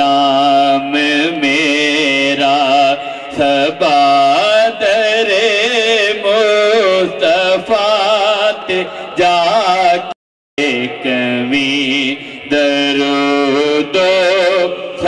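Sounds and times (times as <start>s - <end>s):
man singing devotional hymn: 0.0s - 15.0s.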